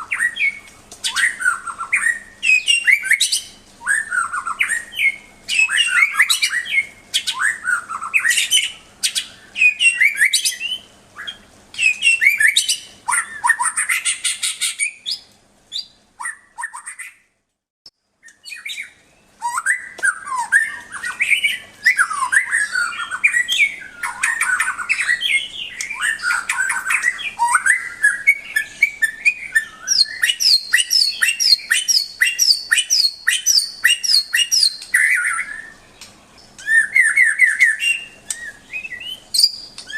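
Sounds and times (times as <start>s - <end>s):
bird singing whistles: 0.0s - 17.2s, 18.2s - 36.0s, 36.6s - 39.9s
faint steady hum: 0.0s - 39.9s.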